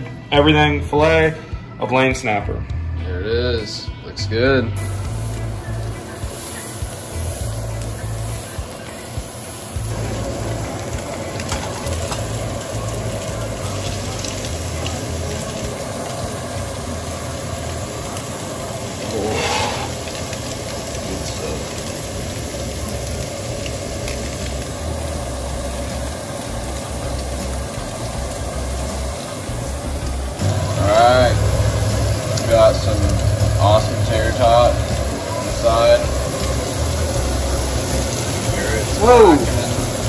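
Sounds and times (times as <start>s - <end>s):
fish sizzling in a frying pan: 4.8s - 40.0s.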